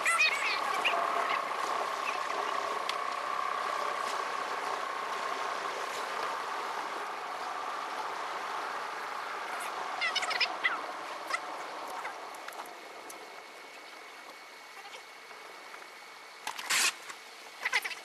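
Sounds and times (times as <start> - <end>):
high hum: 0.0 - 17.1
car road and engine noise: 0.0 - 18.0.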